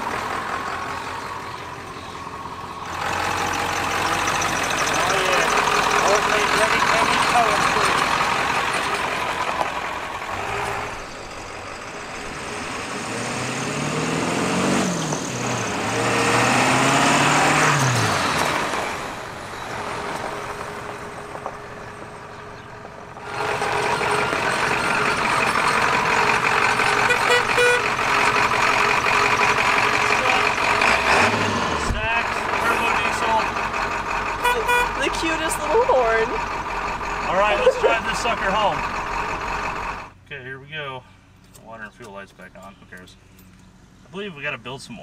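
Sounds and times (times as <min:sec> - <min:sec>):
diesel truck engine accelerating: 0:00.0 - 0:40.4.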